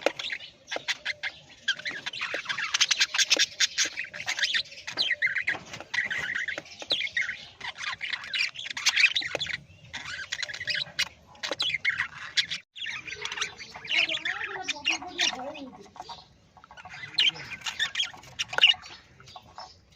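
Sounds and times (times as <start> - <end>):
parrots chattering and squawking: 0.0 - 19.9.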